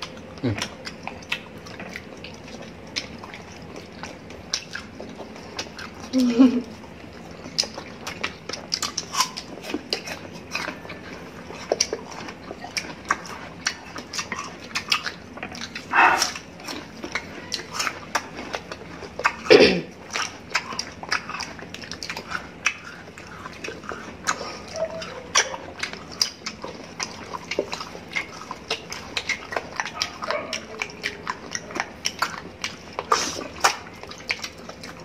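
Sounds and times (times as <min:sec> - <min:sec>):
chewing and lip smacking: 0:00.0 - 0:35.0.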